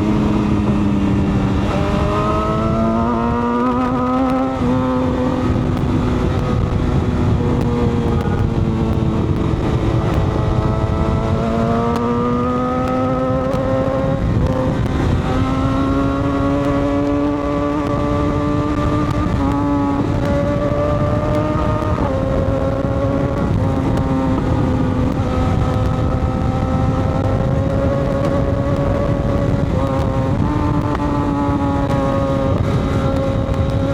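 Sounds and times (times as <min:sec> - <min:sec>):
motorcycle engine running: 0:00.0 - 0:33.9
wind and road rush: 0:00.0 - 0:33.9.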